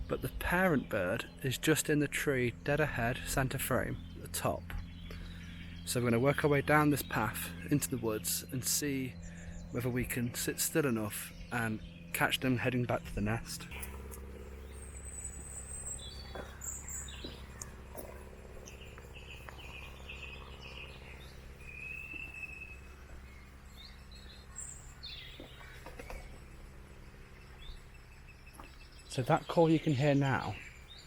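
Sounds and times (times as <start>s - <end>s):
faint low hum: 0.0s - 31.0s
small birds chirping: 0.0s - 31.0s.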